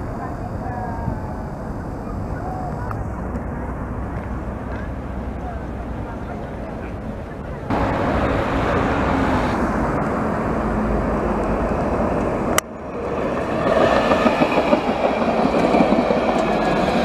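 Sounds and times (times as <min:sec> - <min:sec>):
road traffic: 0:00.0 - 0:17.0
tram running past: 0:00.0 - 0:17.0.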